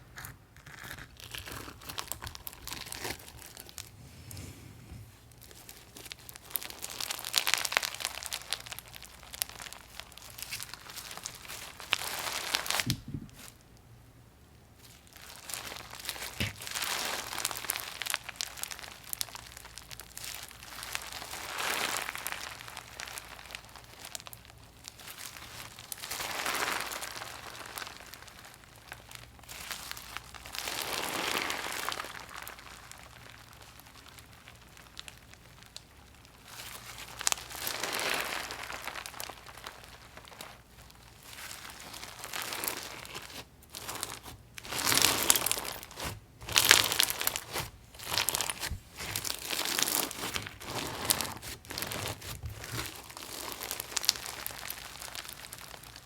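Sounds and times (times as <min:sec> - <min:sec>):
crunchy slime squeezed by hand: 0:00.0 - 0:03.9, 0:05.4 - 0:13.6, 0:14.9 - 0:56.0.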